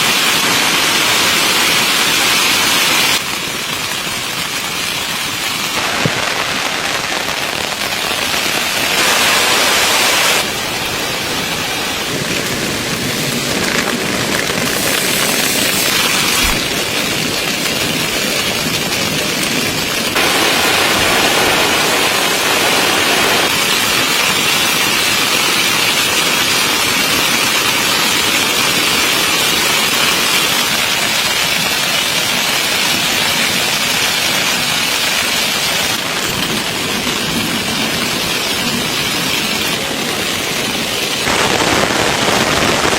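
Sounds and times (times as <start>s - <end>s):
rain pattering on tent fabric: 0.2s - 42.9s.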